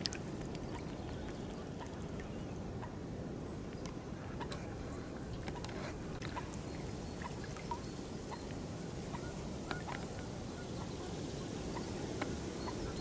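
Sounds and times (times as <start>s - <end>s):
water trickling and lapping: 0.0s - 13.0s.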